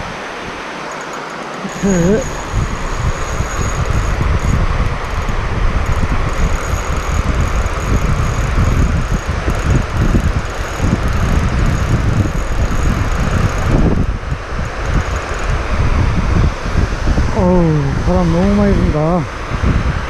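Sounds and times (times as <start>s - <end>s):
strong wind buffeting microphone: 1.6s - 20.0s.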